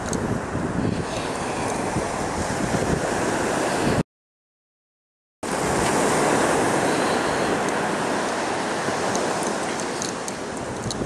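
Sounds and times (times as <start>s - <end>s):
surf and wind rushing: 0.0s - 4.0s, 5.4s - 11.0s.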